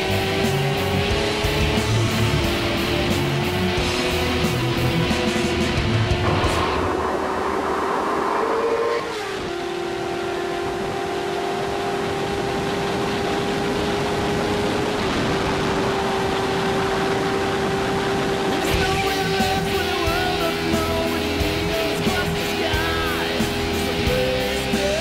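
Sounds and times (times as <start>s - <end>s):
car engine pulling hard: 0.0s - 25.0s
road and wind rush: 0.0s - 25.0s.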